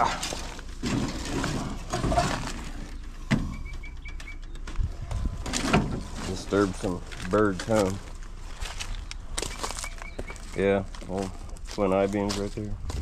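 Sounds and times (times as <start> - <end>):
birds chirping: 2.0 - 13.0.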